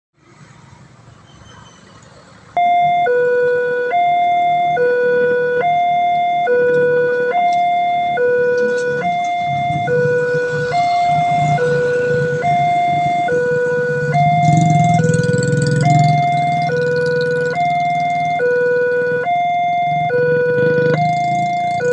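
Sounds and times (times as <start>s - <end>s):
two-tone electronic warning siren: 2.6s - 21.9s.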